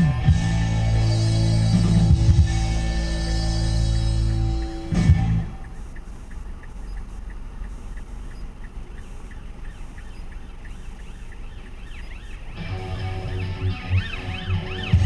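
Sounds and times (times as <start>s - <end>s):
car cabin rumble: 0.0s - 15.0s
faint siren wailing: 0.0s - 15.0s
faint steady ticking: 0.0s - 15.0s.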